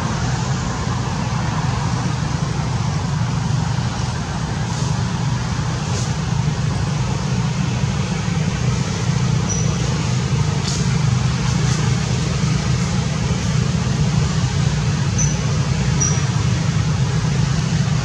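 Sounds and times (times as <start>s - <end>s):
hiss: 0.0s - 18.0s
low rumbling noise: 0.0s - 18.0s.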